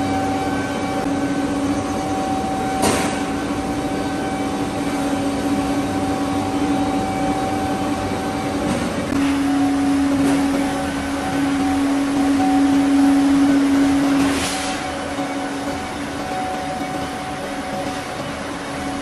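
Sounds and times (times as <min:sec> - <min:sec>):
overhead crane rumbling: 0:00.0 - 0:19.0
steady hum: 0:00.0 - 0:19.0.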